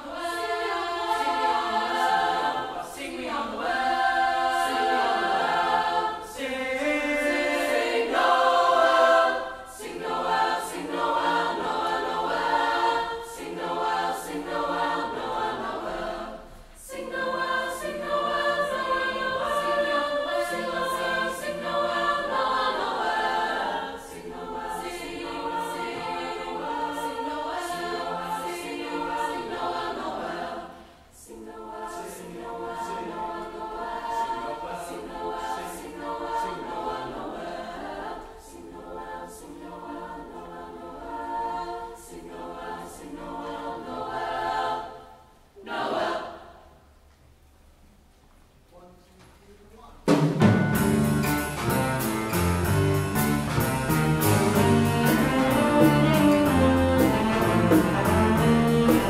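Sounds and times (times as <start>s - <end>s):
mixed choir singing: 0.0s - 47.0s, 52.0s - 59.0s.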